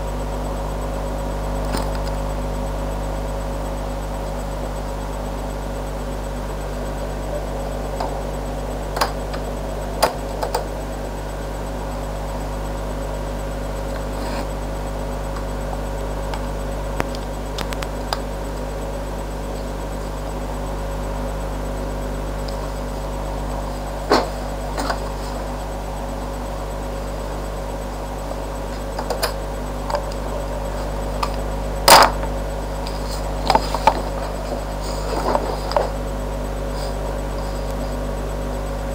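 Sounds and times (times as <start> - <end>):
steady hum and hiss: 0.0 - 38.9.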